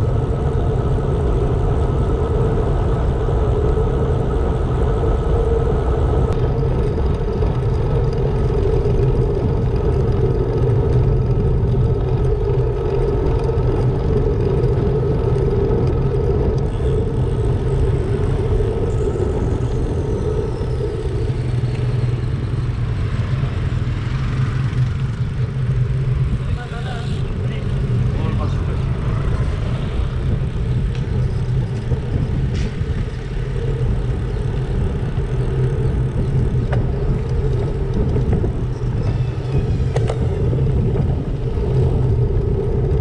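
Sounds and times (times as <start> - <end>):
wind rush: 0.0 - 43.0
bike tyres rolling on wet tarmac: 3.4 - 43.0.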